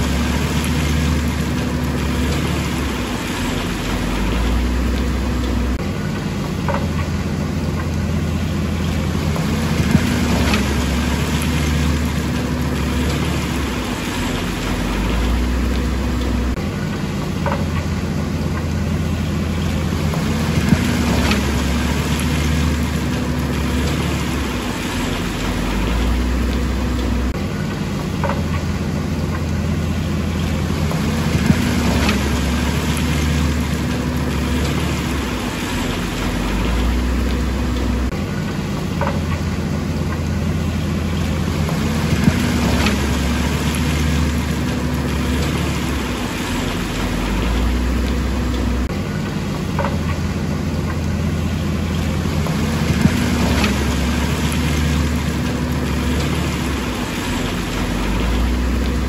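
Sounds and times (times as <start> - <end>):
heavy diesel engines working: 0.0 - 59.0.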